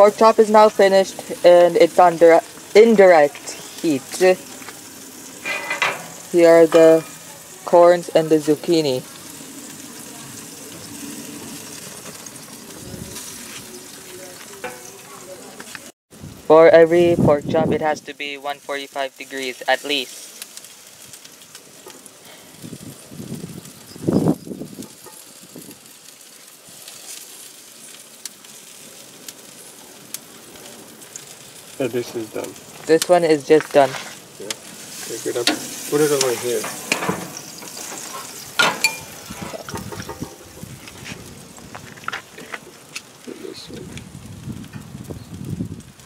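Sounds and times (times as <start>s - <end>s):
food sizzling on a grill: 0.0s - 46.0s.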